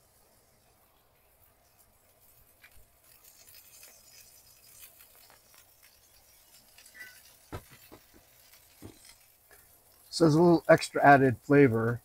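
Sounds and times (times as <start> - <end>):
burgers sizzling in a skillet: 0.0 - 12.0.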